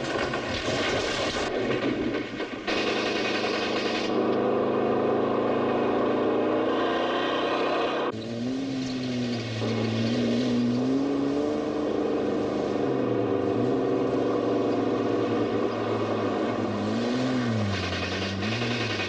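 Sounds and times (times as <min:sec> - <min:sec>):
car engines revving hard: 0:02.7 - 0:19.0.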